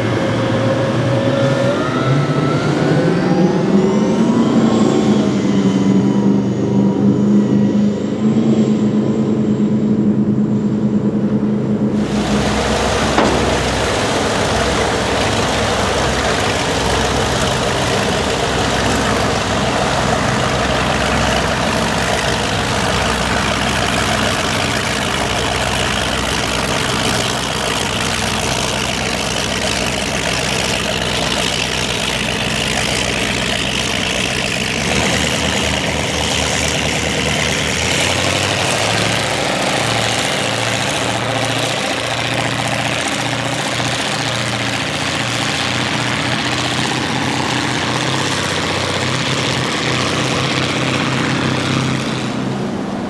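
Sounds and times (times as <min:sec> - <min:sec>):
powerboat engines running: 0:00.0 - 0:53.0.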